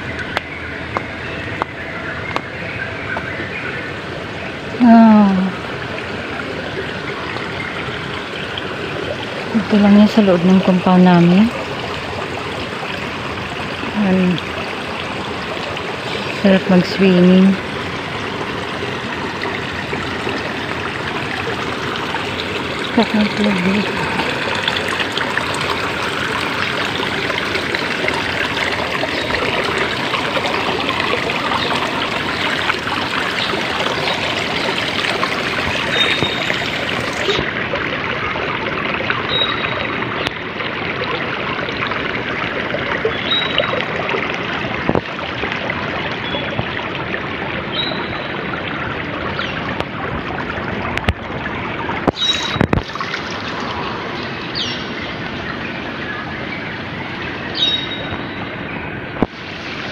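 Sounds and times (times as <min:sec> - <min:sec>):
water trickling into pool: 0:00.0 - 0:59.9.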